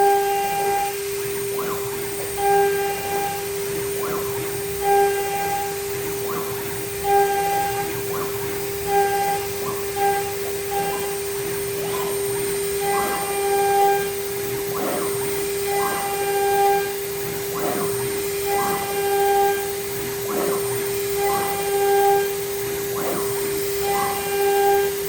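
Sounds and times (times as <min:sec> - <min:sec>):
cnc router steady whine: 0:00.0 - 0:25.0
stepper motors rising and falling whines: 0:00.0 - 0:25.0.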